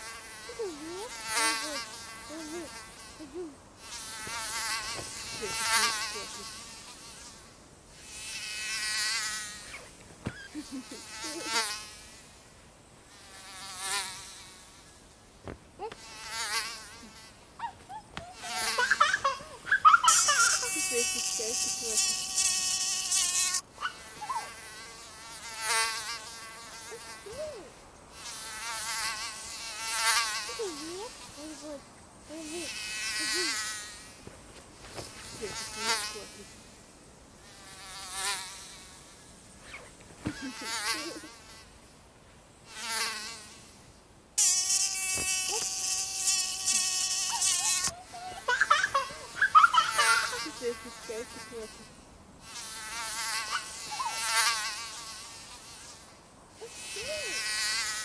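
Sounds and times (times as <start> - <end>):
mosquito buzzing: 0.0 - 12.4, 15.8 - 36.8, 37.4 - 41.7, 42.7 - 58.0.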